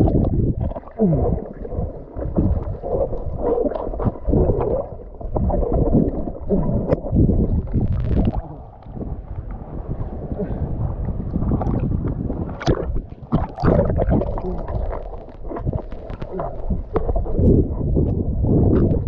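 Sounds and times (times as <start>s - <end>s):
underwater rumbling and gurgling: 0.0s - 19.0s.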